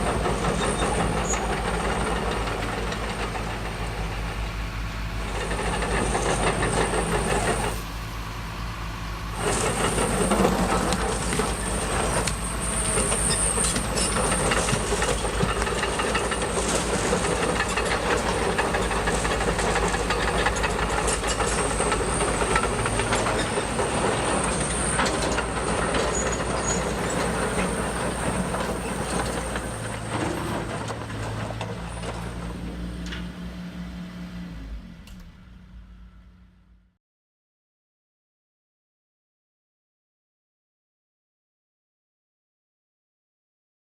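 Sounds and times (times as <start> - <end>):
motor and hydraulic pump hum: 0.0 - 36.3.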